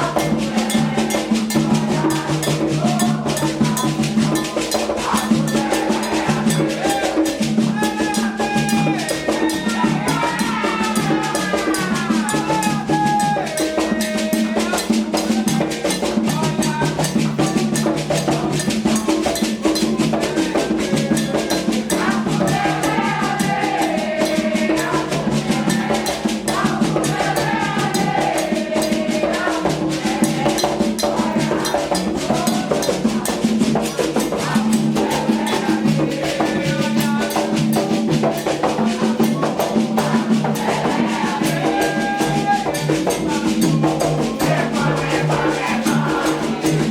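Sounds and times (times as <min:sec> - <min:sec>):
hand drums beating fast rhythm: 0:00.0 - 0:46.9
voices singing a chant: 0:00.0 - 0:46.9.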